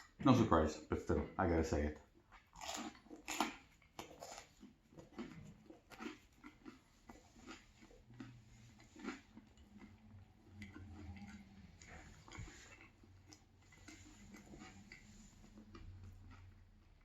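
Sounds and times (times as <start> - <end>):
quiet chewing: 0.0 - 17.0.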